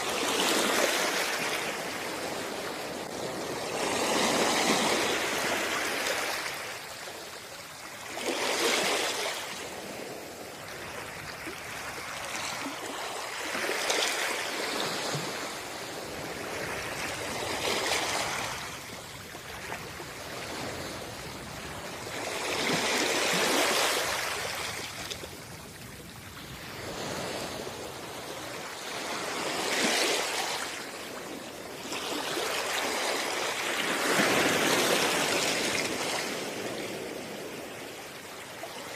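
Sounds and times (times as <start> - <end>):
small waves washing on sand: 0.0 - 38.9.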